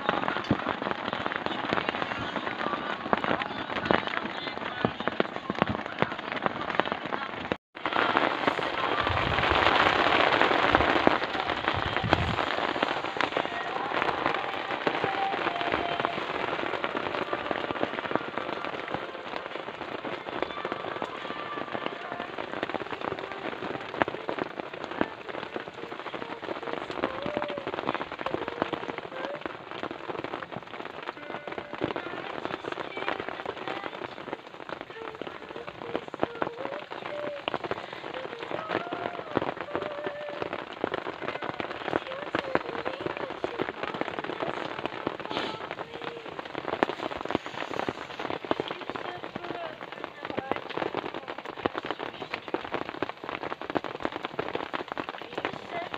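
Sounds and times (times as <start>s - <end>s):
heavy rain on a surface: 0.0s - 55.9s.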